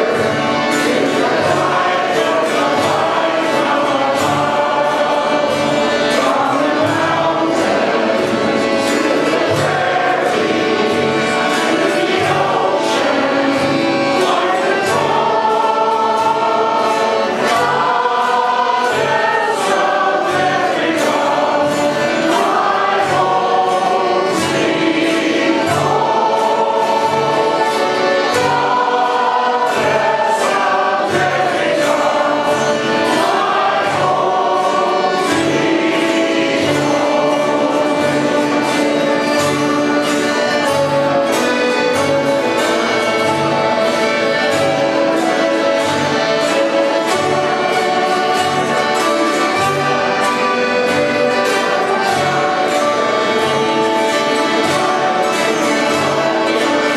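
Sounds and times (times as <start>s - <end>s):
choral singing: 0.0s - 56.9s.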